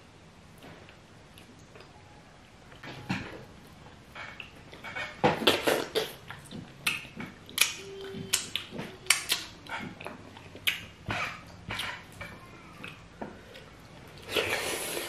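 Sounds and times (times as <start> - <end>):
wet lip smacking and chewing: 2.7 - 15.0.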